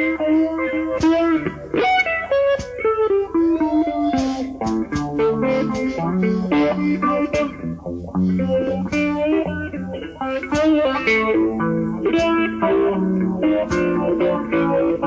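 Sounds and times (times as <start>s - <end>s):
electric guitar blues-rock lead: 0.0s - 15.0s.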